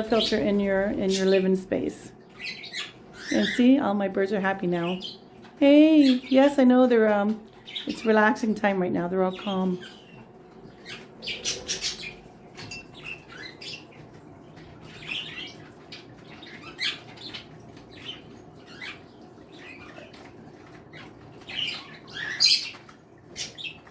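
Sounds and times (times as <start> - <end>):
small birds chirping: 0.0 - 6.7, 7.3 - 23.9.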